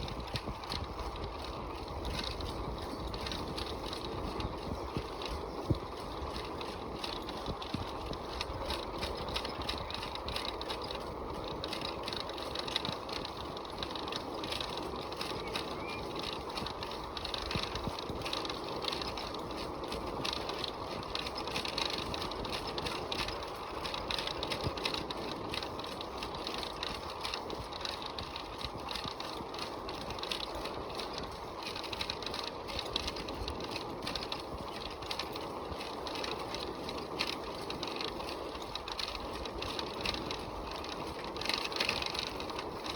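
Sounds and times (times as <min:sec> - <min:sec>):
bicycle chain rattling and clicking: 0:00.0 - 0:42.9.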